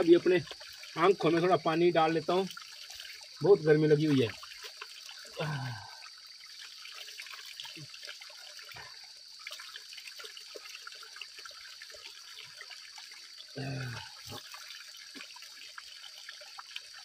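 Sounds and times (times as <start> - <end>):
water splashing and dripping: 0.0 - 17.0
water trickling over rocks: 0.0 - 17.0.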